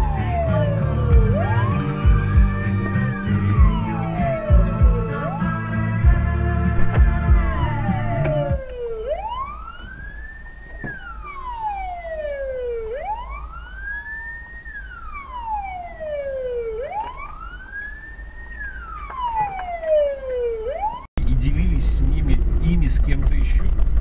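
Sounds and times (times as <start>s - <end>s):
siren wailing: 0.0s - 21.1s
low road rumble: 0.0s - 24.0s.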